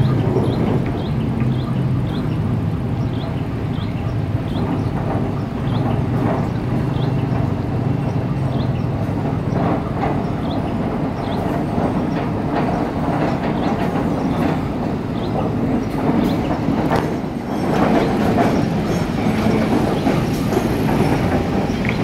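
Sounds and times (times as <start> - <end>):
locomotive engine humming: 0.0 - 22.0
wheels clacking on bridge track: 0.0 - 22.0.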